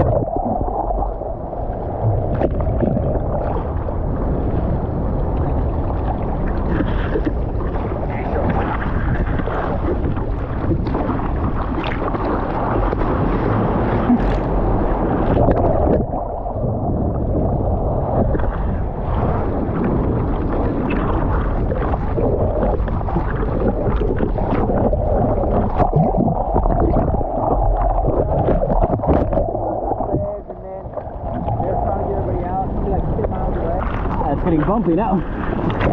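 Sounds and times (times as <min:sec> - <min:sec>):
ocean water splashing in surf: 0:00.0 - 0:35.9
wind buffeting microphone: 0:00.0 - 0:35.9.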